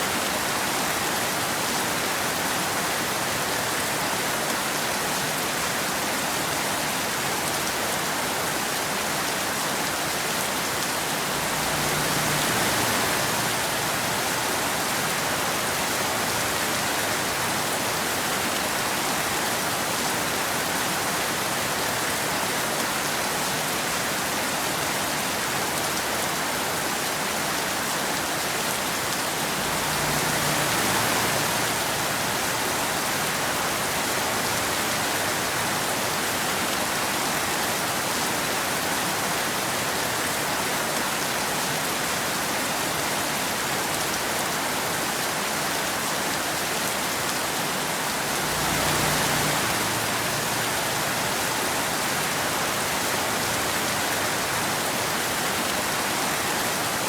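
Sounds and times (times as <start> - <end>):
rain falling on road: 0.0 - 57.0.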